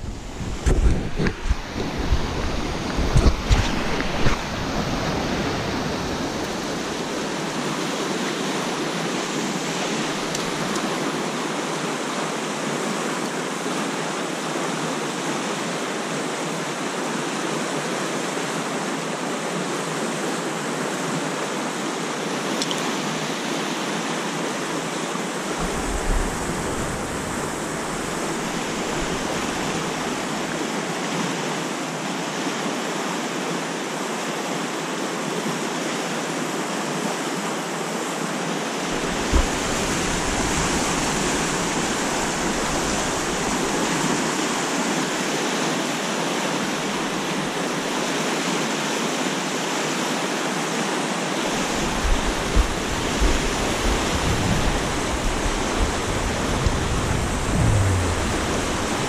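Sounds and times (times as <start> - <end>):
whitewater rushing over rocks: 0.0 - 59.0.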